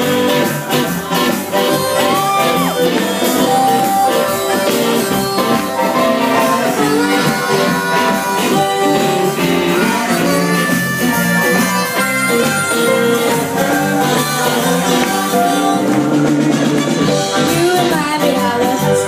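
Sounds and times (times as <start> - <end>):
drums: 0.0 - 19.0
electric guitar: 0.0 - 19.0
live band playing: 0.0 - 19.0.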